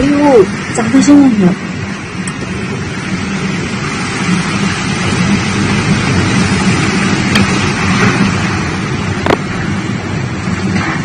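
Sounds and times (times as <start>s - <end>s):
strong storm wind rushing: 0.0s - 11.0s.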